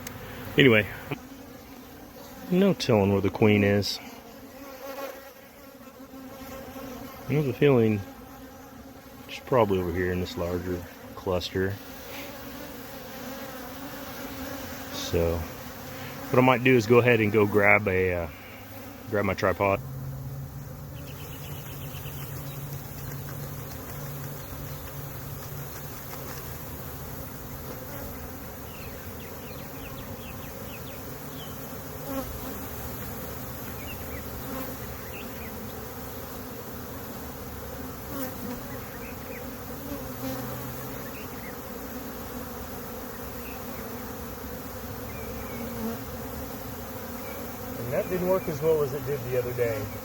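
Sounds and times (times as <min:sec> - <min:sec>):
bee swarm buzzing: 0:00.0 - 0:50.0.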